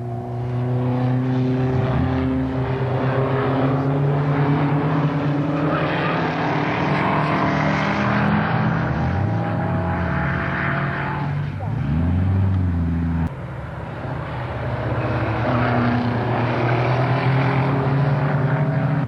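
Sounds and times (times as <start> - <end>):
engine running steadily: 0.0 - 6.0, 7.8 - 19.0.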